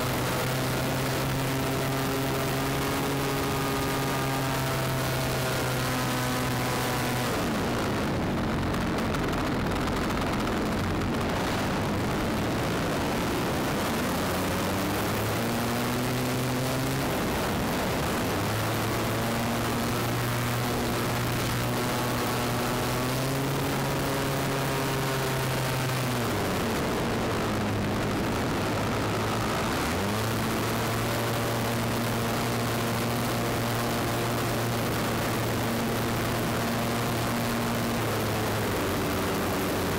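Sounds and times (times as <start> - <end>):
plane engine and propeller drone: 0.0 - 39.9
wind rushing over microphone: 0.0 - 39.9.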